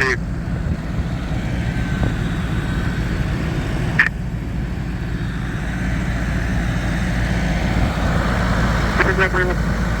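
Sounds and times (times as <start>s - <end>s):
fire engines running: 0.0s - 10.0s.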